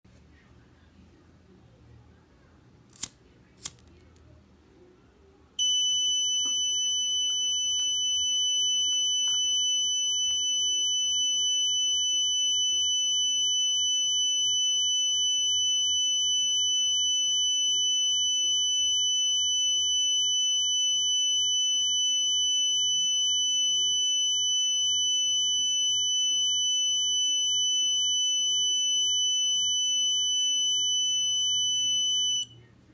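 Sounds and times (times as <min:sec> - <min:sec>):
fire alarm buzzer tone: 0:05.6 - 0:32.6.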